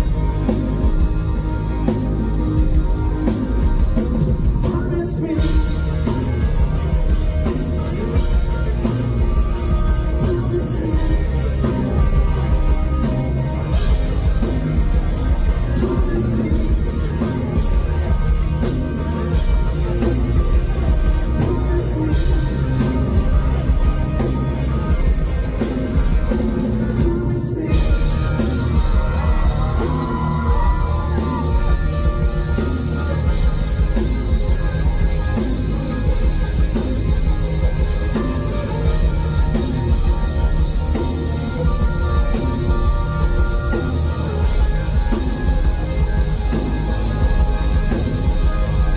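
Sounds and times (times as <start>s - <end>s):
drum kit: 0.0s - 48.9s
electric guitar: 0.0s - 48.9s
live rock band playing: 0.0s - 48.9s.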